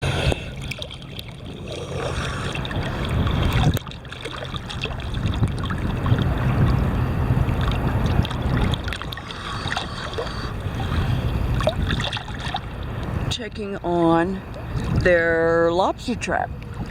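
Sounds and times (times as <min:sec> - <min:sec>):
seawater sloshing and splashing: 0:00.0 - 0:15.2
boat engine hum: 0:00.0 - 0:16.9.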